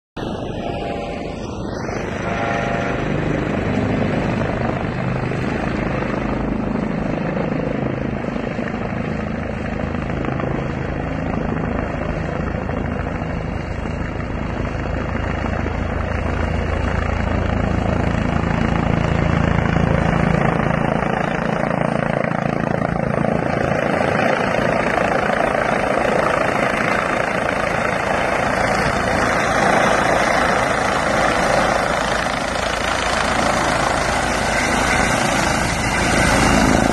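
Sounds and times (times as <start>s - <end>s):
helicopter rotor and turbine: 0.2s - 36.9s.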